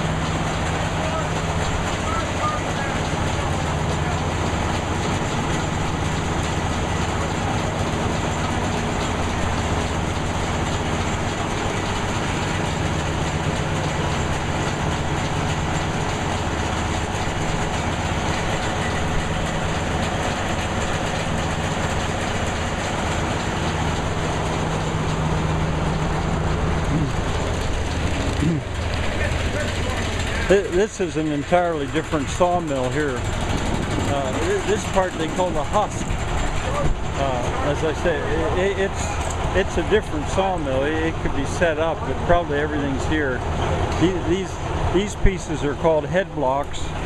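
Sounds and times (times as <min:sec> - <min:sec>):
low engine drone: 0:00.0 - 0:47.0
sawmill machinery din: 0:00.0 - 0:47.0.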